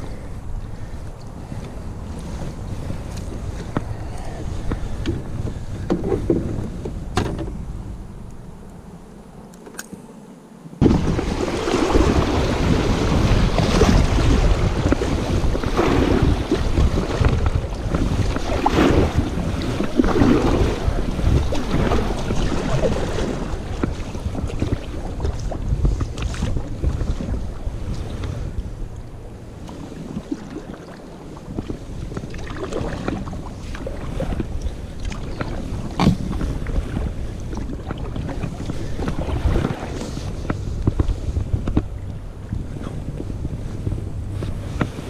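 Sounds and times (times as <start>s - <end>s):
wind buffeting microphone: 0.0s - 9.4s, 10.8s - 45.0s
water noise: 0.0s - 45.0s.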